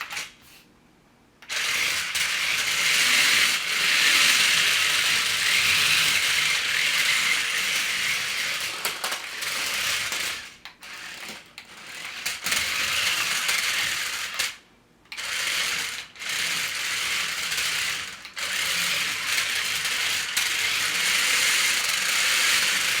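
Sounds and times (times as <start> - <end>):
toy car motors whirring: 1.4 - 23.0.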